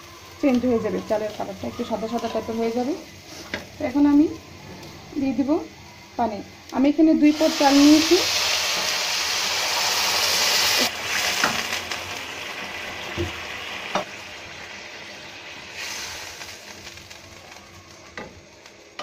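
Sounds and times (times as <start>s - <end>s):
water sizzling in hot pan: 0.0s - 4.5s, 5.2s - 19.0s.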